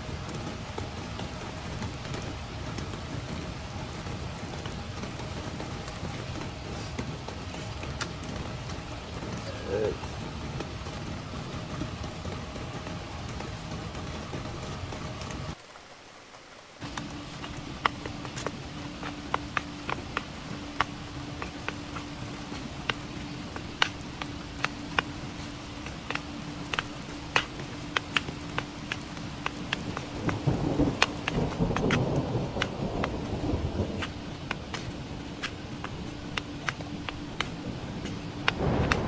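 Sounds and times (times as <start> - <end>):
thunder rumbling: 0.0 - 15.6, 16.8 - 39.0
raindrops tapping on tent: 0.0 - 39.0
steady low hum: 0.0 - 39.0.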